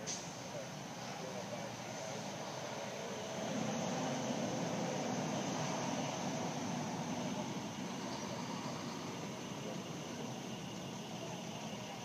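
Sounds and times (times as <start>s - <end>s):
heavy trucks driving past: 0.0s - 12.0s.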